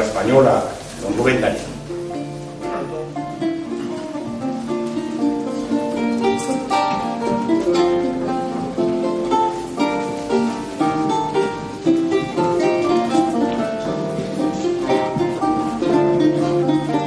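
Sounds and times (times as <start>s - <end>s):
lutes playing a duet: 0.0s - 17.0s.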